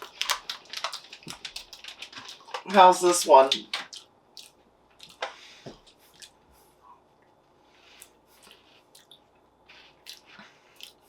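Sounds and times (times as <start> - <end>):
chewing puffed snacks: 0.0 - 6.6, 7.9 - 11.0.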